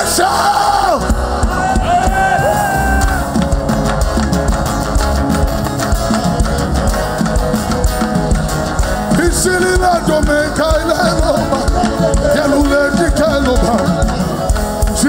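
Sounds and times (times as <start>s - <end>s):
live worship band playing: 0.0s - 15.0s.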